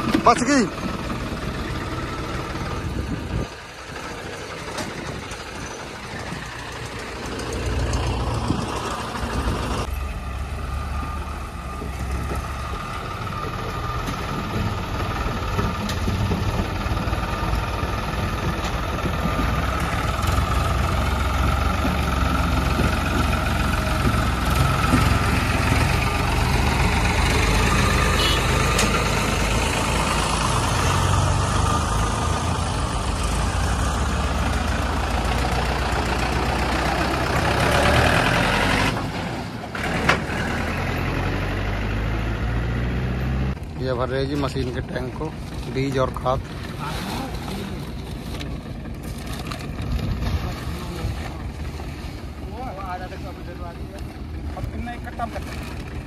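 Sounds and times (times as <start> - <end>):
tractor engines rumbling: 0.0 - 56.0.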